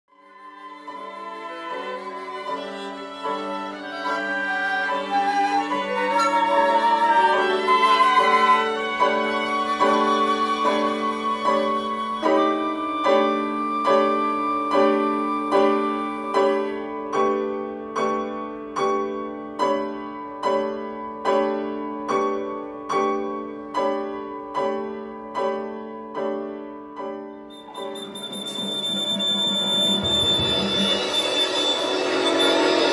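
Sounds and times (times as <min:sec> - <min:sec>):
piano chords: 0:00.9 - 0:32.9.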